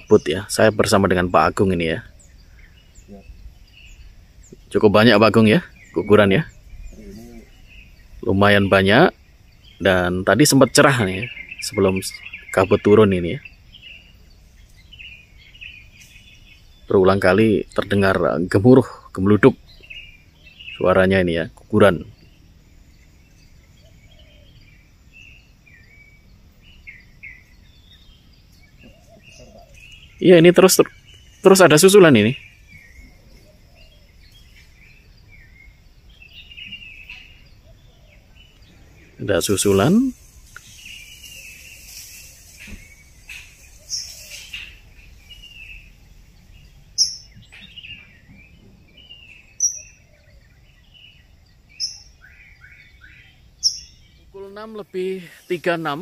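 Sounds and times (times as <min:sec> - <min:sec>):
bird chirps: 0:00.0 - 0:56.0.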